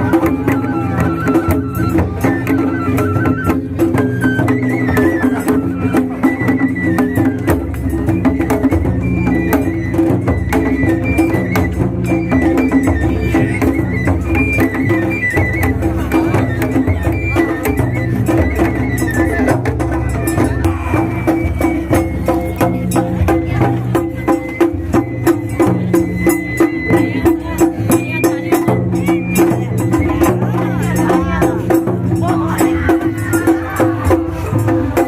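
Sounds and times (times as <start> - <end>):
low drums: 0.0 - 35.0
rapid clicking percussion: 0.0 - 35.0.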